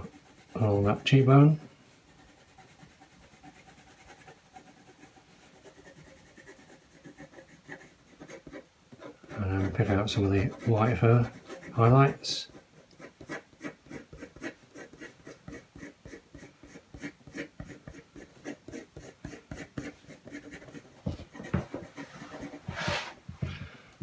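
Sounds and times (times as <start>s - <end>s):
pencil scratching on card: 0.0s - 23.2s.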